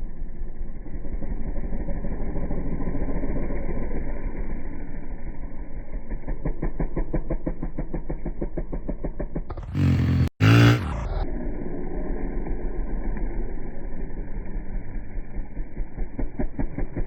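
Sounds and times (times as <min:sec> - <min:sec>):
engine running with rapid pulsing: 0:00.0 - 0:17.0.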